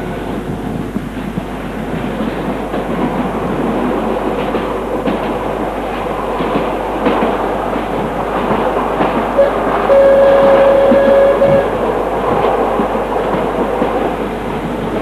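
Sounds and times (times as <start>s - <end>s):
steady rumble: 0.0s - 15.0s
wheels clattering on track: 0.0s - 15.0s.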